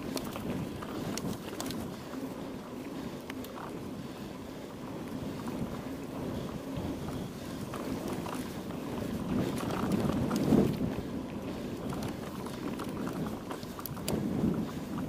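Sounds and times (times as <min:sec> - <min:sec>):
bike rattling on rough ground: 0:00.0 - 0:15.0
wind rushing over microphone: 0:00.0 - 0:15.0.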